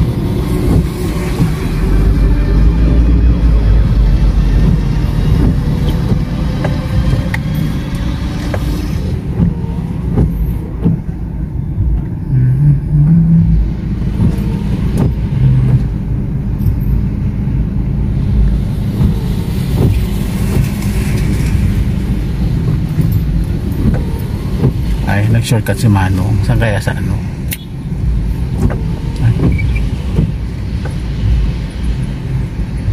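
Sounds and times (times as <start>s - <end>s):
engine and road rumble: 0.0s - 32.9s.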